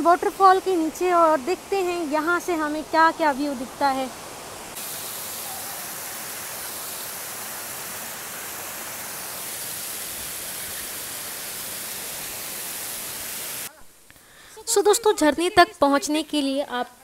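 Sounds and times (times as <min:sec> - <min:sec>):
stream cascading over boulders: 0:00.0 - 0:13.7.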